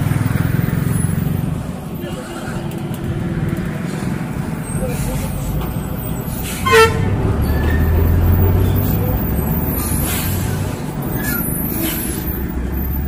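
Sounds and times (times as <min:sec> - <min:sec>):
truck diesel engine drone: 0:00.0 - 0:13.0
tyre and road noise: 0:00.0 - 0:13.0.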